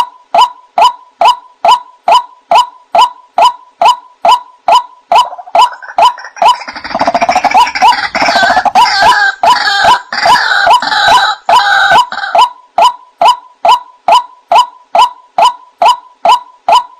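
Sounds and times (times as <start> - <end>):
dense overlapping bird calls: 0.0 - 16.9
waterhen kwak calls: 1.7 - 16.9.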